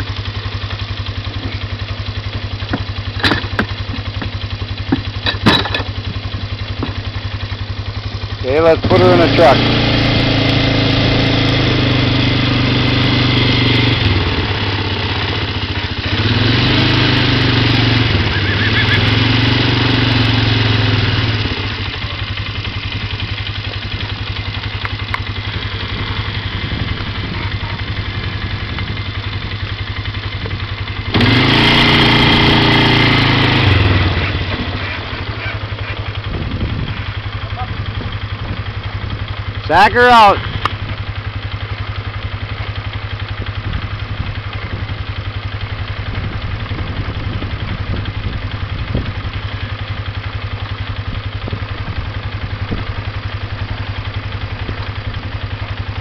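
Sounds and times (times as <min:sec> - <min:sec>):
engine revving and idling: 0:00.0 - 0:56.0.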